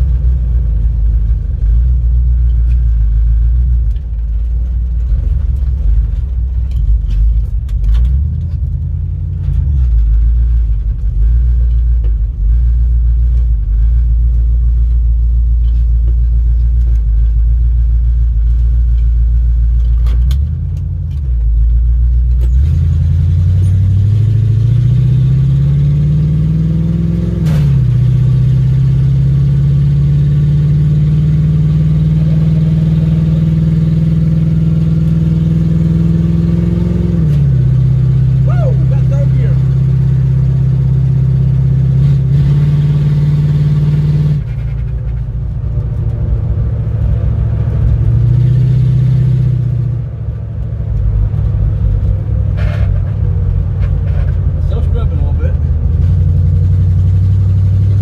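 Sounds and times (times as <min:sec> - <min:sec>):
car engine heard from inside: 0:00.0 - 0:58.0.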